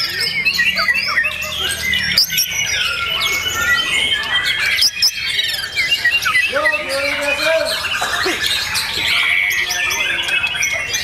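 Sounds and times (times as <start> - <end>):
birds singing whistled notes: 0.0 - 11.0.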